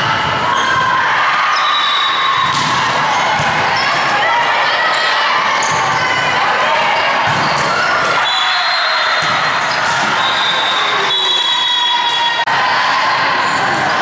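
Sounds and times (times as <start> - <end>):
voices and shouting: 0.0 - 14.0.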